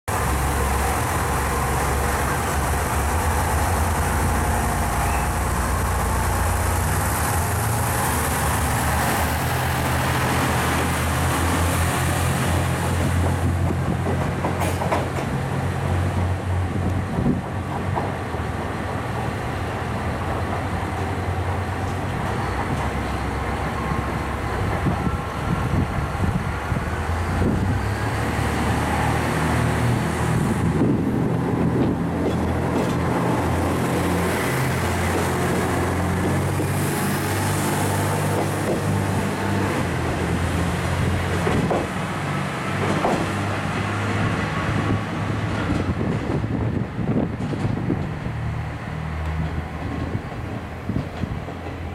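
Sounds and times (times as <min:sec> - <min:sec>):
diesel railcar engine running: 0:00.1 - 0:51.9
diesel train engines pulling out: 0:00.1 - 0:51.9.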